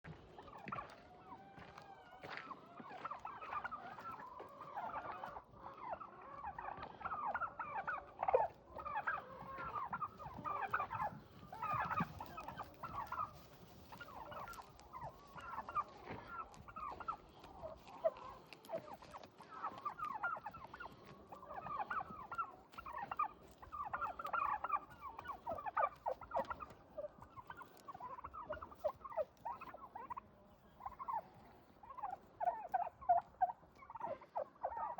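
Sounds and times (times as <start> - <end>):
turkeys gobbling: 0.0 - 34.9.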